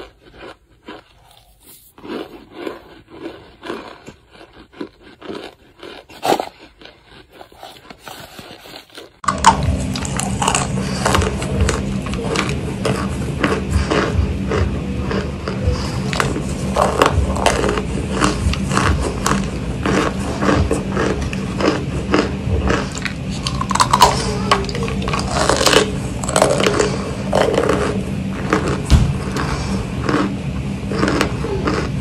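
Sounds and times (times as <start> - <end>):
crisp crunches of chewing: 0.0 - 32.0.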